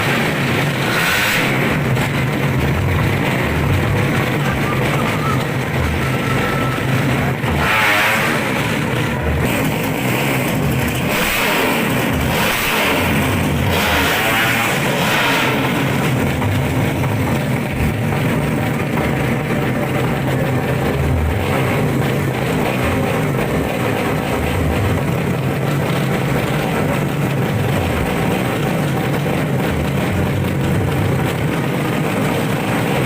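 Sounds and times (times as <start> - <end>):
racing engines revving: 0.0 - 33.0.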